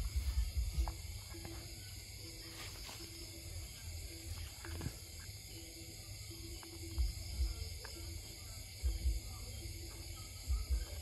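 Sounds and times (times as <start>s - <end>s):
insect chorus hiss: 0.0s - 11.0s.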